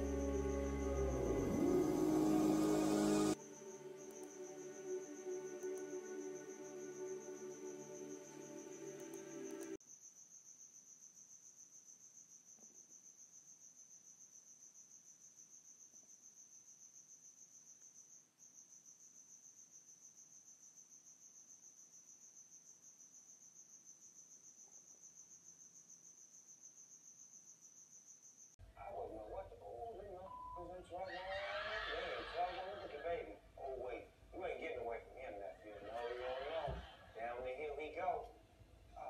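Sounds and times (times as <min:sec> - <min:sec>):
insect chirping trill: 0:00.0 - 0:31.4.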